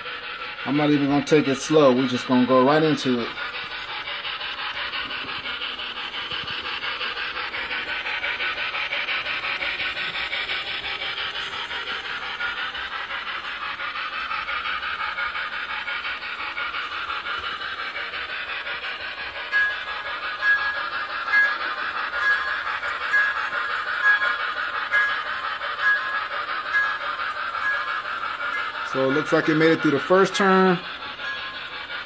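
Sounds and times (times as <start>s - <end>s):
model train rumbling on track: 0.0s - 32.0s.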